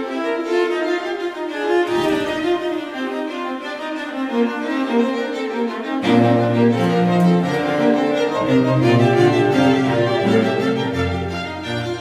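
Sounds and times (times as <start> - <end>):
bowed strings playing classical music: 0.0 - 12.0.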